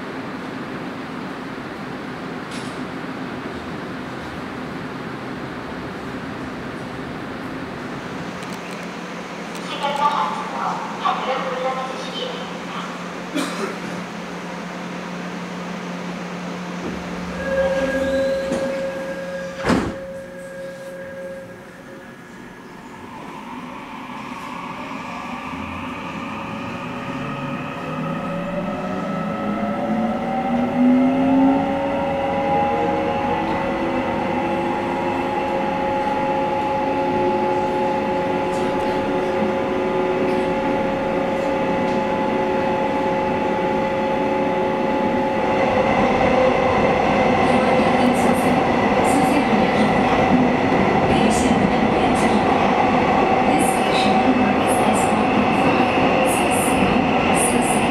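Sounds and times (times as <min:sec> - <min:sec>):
train rail and running noise: 0:00.0 - 0:57.9.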